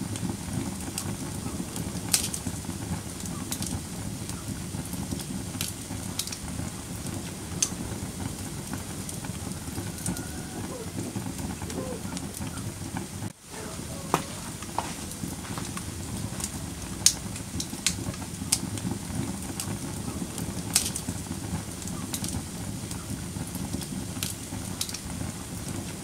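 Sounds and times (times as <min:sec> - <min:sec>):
fire crackles and pops: 0:00.0 - 0:26.0
fire rumbling in fireplace: 0:00.0 - 0:26.0.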